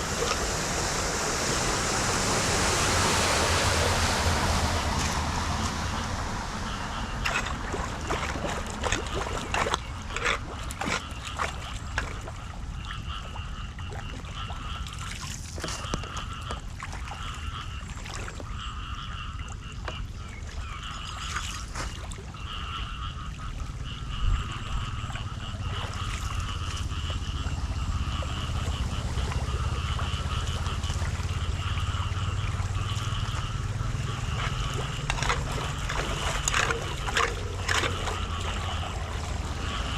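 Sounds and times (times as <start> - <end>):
steady low rumble: 0.0 - 21.2, 22.1 - 39.9
floodwater splashing and trickling: 0.0 - 39.9.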